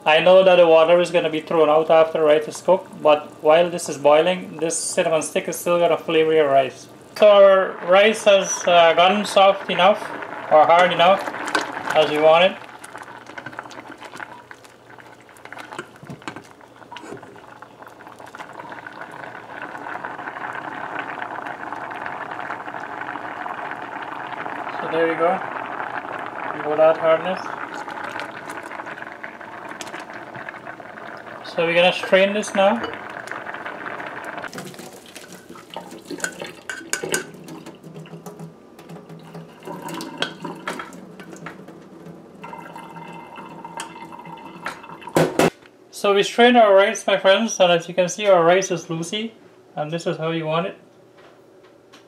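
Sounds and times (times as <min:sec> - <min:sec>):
rice boiling in water: 0:00.0 - 0:45.5.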